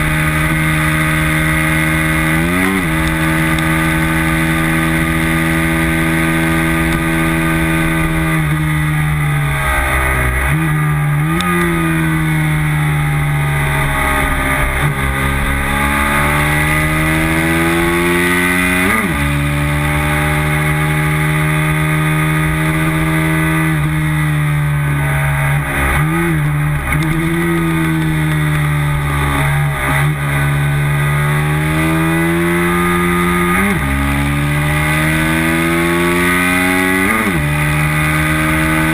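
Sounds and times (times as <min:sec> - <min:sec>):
motorcycle engine at high revs: 0:00.0 - 0:38.9.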